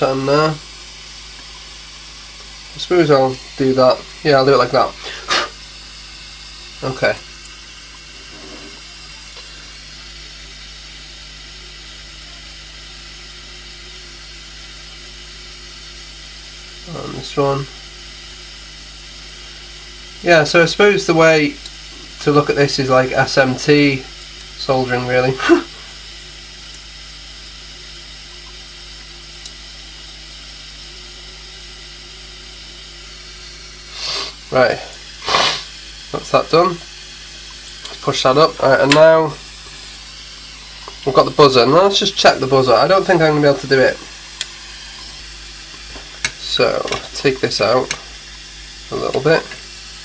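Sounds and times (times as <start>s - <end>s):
faint electrical hum: 0.0s - 50.0s.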